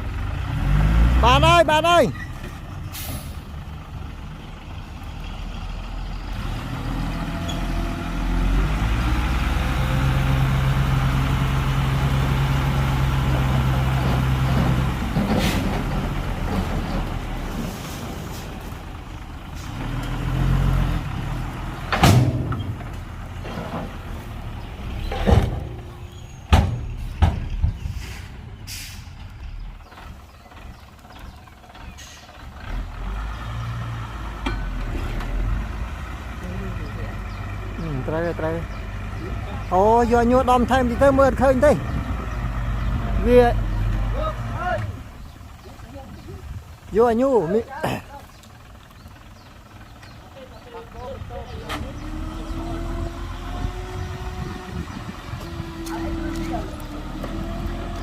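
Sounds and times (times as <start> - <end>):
heavy diesel engine of machinery: 0.0 - 58.0.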